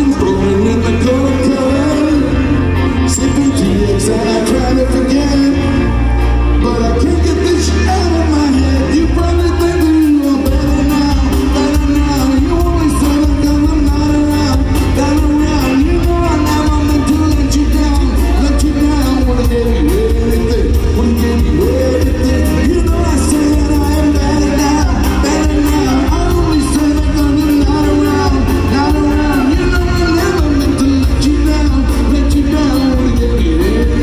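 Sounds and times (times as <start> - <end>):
drums: 0.0 - 34.0
electric guitar: 0.0 - 34.0
man singing lead vocals: 0.0 - 34.0.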